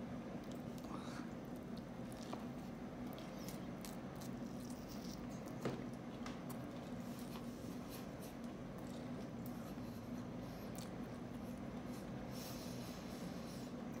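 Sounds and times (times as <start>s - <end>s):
steady low hum: 0.0s - 14.0s
chewing and lip-smacking: 0.4s - 12.1s.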